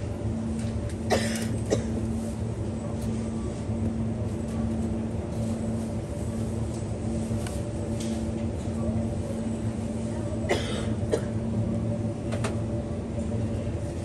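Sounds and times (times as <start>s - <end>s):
refrigerated display cases humming: 0.0s - 14.0s.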